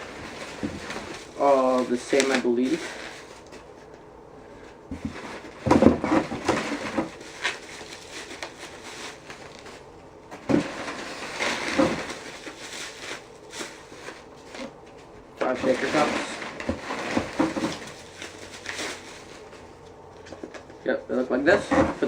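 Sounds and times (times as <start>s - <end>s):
plastic packaging rustling and clattering: 0.0s - 22.0s.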